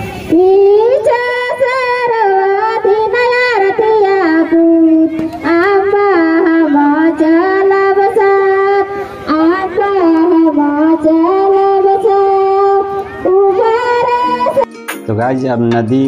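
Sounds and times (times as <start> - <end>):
high voice singing devotional song: 0.0 - 16.0.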